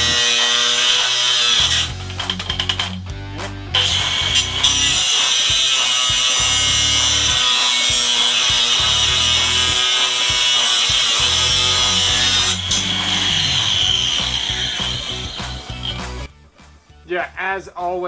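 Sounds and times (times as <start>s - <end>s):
angle grinder cutting steel: 0.0s - 3.0s, 3.7s - 16.3s.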